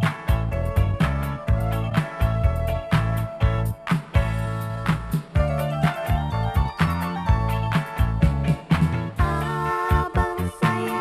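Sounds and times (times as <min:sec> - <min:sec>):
pop song music: 0:00.0 - 0:11.0.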